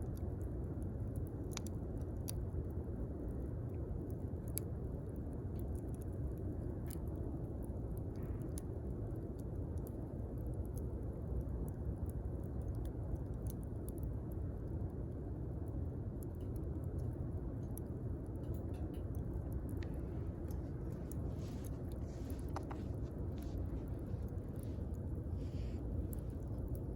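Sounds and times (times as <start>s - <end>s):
campfire low rumble: 0.0s - 26.9s
fire crackles and pops: 0.0s - 26.9s.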